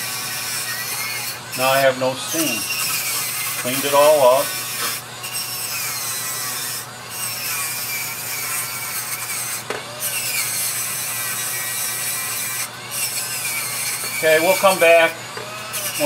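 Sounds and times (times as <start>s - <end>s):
rotary tool sanding wood: 0.0s - 16.0s.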